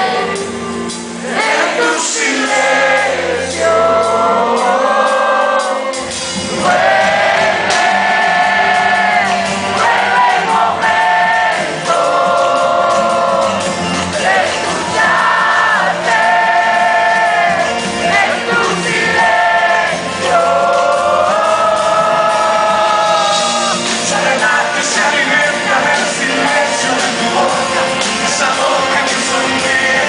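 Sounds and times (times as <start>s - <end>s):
rock band playing: 0.0s - 30.0s
sliding lead melody: 0.0s - 30.0s.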